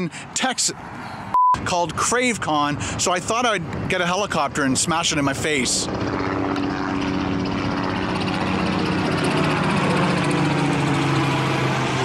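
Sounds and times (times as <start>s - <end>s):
helicopter flying overhead: 0.0s - 12.0s.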